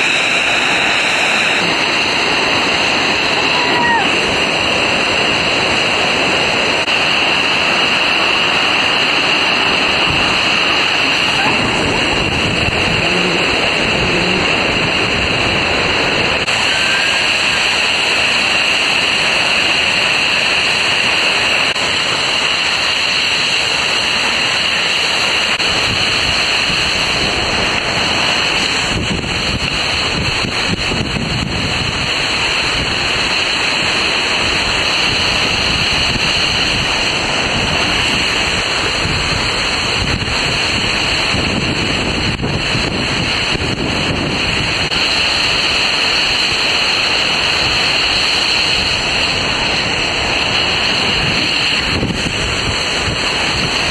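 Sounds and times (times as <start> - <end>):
water rushing down a slide: 0.0 - 53.9.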